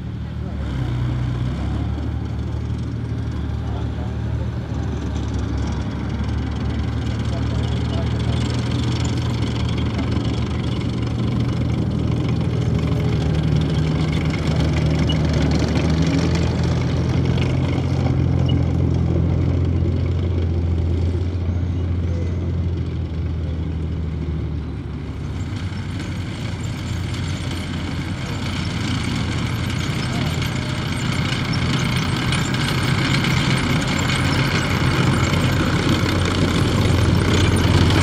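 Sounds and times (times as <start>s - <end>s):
tracked vehicle diesel engine droning: 0.0s - 38.0s.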